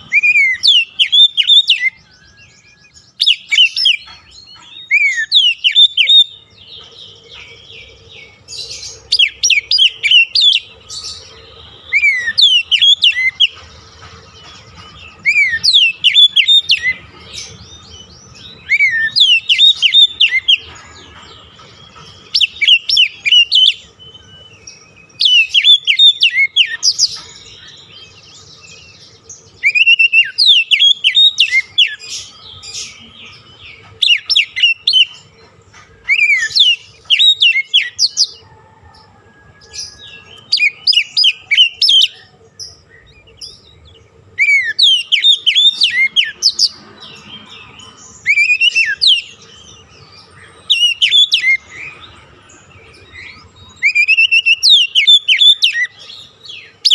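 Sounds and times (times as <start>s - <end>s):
bird whistling and chirping: 0.0s - 56.9s.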